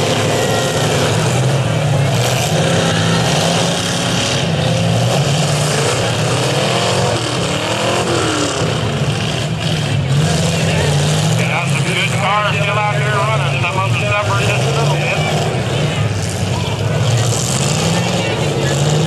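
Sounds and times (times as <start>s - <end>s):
demolition derby car engines revving: 0.0s - 19.0s.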